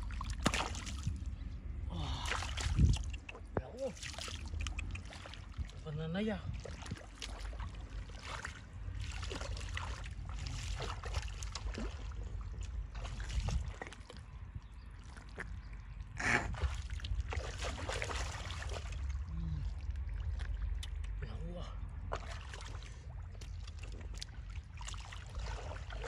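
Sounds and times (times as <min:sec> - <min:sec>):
low steady rumble: 0:00.0 - 0:26.0
water sloshing and splashing: 0:00.0 - 0:26.0.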